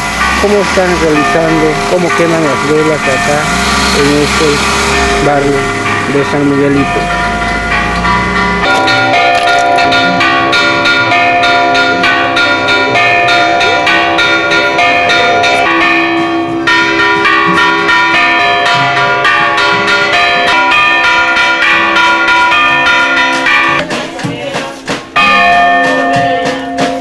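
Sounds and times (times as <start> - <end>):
church bells pealing: 0.0 - 23.9, 25.2 - 27.0.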